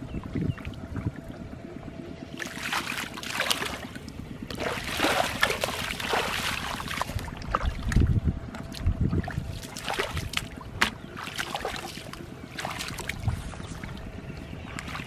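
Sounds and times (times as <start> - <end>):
feet splashing through water: 2.3 - 15.0.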